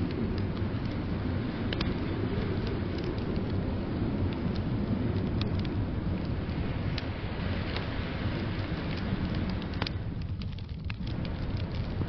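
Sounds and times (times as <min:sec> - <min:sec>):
blizzard wind rumble: 0:00.0 - 0:12.0
wood fire crackling: 0:00.0 - 0:12.0.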